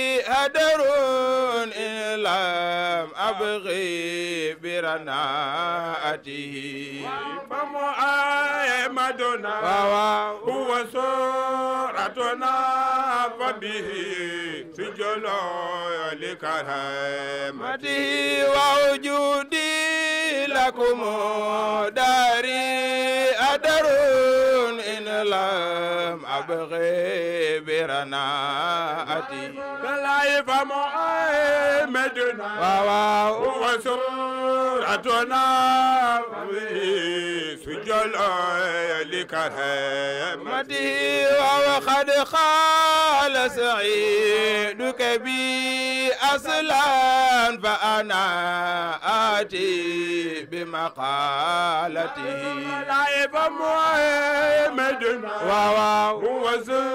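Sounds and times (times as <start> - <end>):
men chanting over loudspeakers: 0.0 - 56.9.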